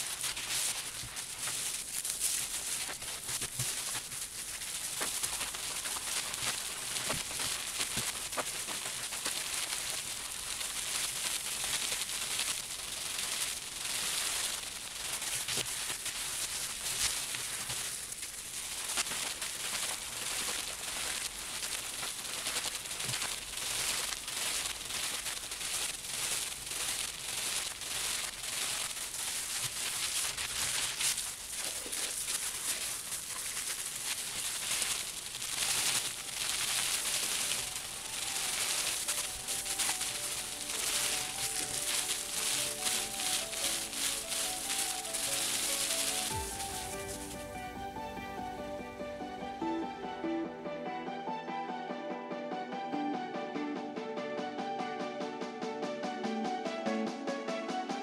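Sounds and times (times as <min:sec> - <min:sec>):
wet rubbing of soapy felt: 0:00.0 - 0:47.9
bubble wrap crinkling: 0:00.0 - 0:49.6.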